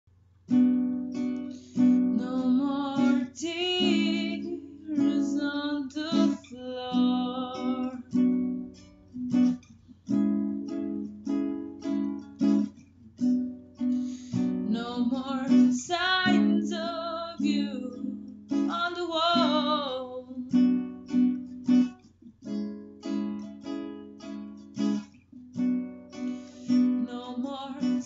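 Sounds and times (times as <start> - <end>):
plucked acoustic string instrument: 0.2 - 28.0.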